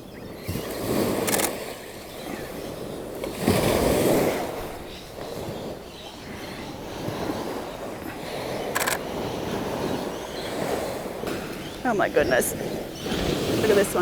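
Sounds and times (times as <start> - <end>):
surf washing on beach: 0.0 - 14.0
wave breaking: 2.4 - 14.0.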